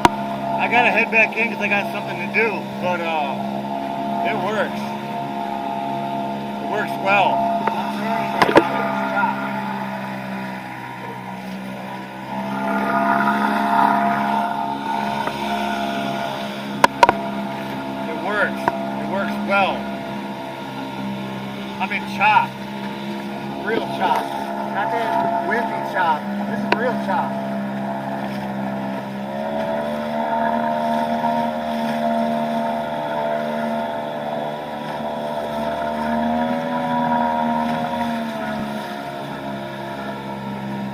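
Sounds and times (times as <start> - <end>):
choppy water: 0.0 - 40.9
outboard motor running: 0.0 - 40.9.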